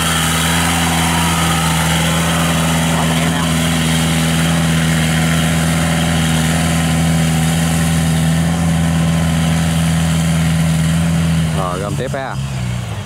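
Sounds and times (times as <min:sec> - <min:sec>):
tracked vehicle engine running: 0:00.0 - 0:13.0.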